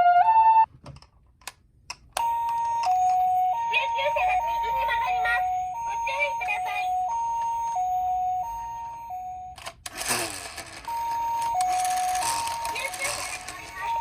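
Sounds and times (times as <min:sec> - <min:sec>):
toy siren two-tone: 0:02.2 - 0:14.0.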